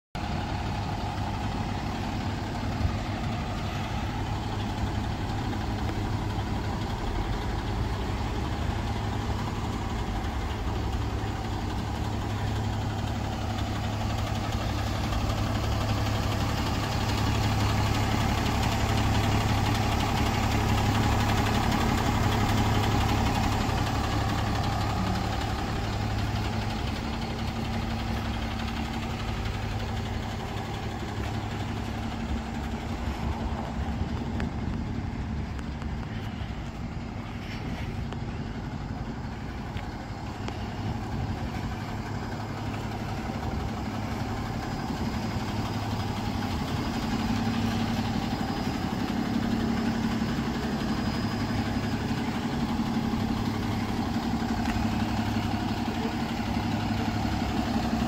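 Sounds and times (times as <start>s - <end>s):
diesel truck engine idling: 0.2s - 58.0s.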